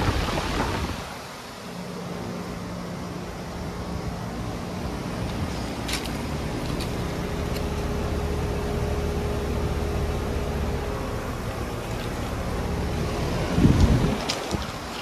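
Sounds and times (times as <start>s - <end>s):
compressor hum: 0.0s - 15.0s
fan rush of air: 0.0s - 15.0s.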